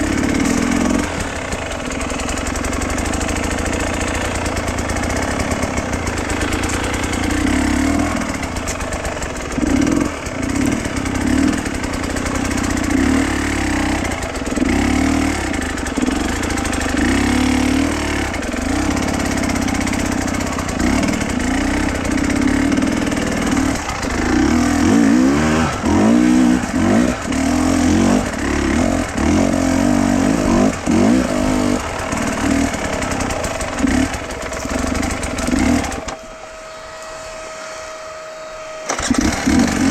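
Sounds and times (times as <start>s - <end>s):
vehicle engine running under load: 0.0s - 38.1s, 38.8s - 39.9s.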